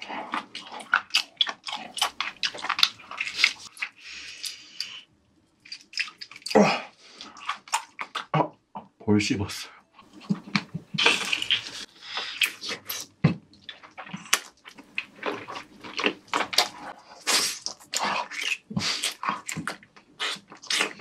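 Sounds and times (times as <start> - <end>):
wet chewing and slurping: 0.0 - 8.3, 10.0 - 21.0.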